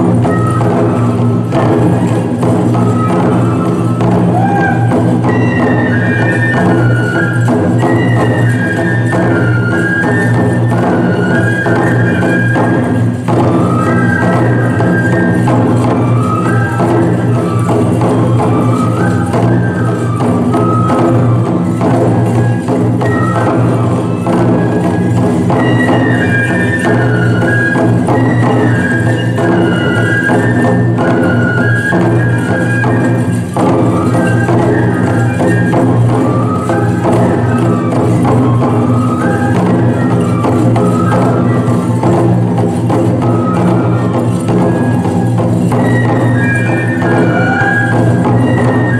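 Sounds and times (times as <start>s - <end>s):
bamboo flutes playing melody: 0.0s - 48.9s
taiko drumming: 0.0s - 48.9s.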